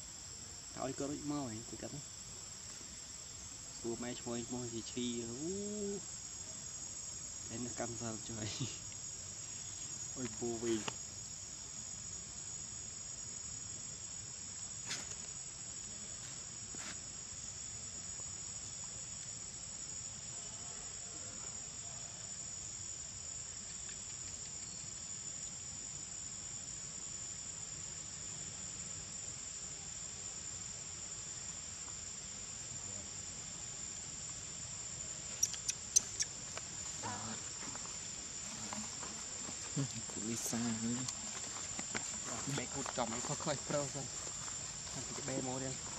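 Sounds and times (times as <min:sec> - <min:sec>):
insect chorus buzzing: 0:00.0 - 0:45.9.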